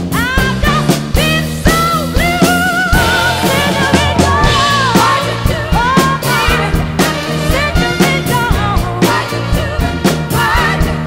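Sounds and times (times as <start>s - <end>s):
band track with lead vocal: 0.0s - 11.0s
drum kit and cymbals: 0.0s - 11.0s.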